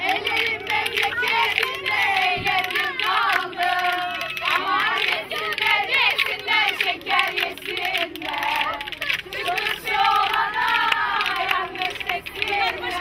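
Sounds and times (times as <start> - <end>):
women singing and calling out: 0.0 - 13.0.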